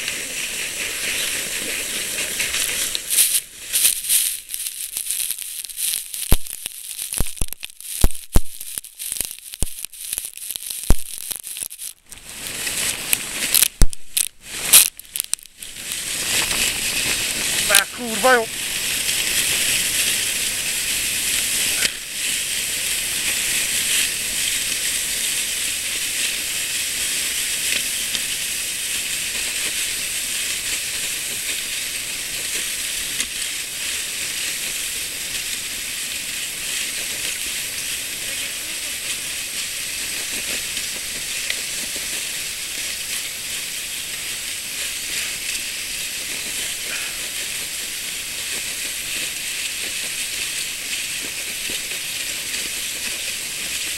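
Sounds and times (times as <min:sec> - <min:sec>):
sled hissing on snow: 0:00.0 - 0:53.9.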